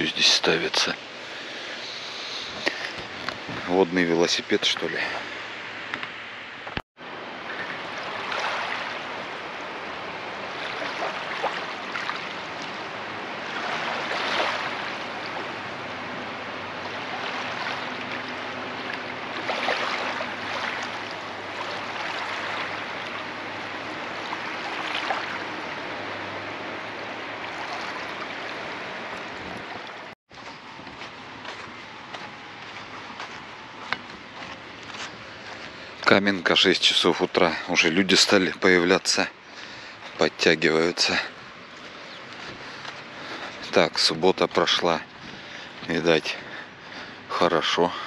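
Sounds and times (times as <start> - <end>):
small waves washing ashore: 0.0 - 48.0.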